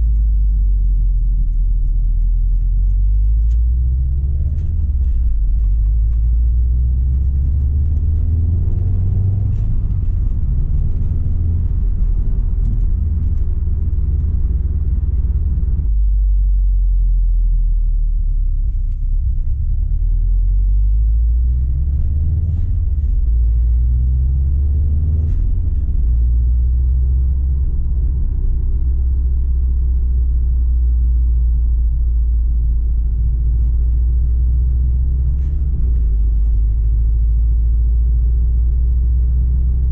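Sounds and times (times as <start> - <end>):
car engine rumbling while driving: 0.0 - 39.9.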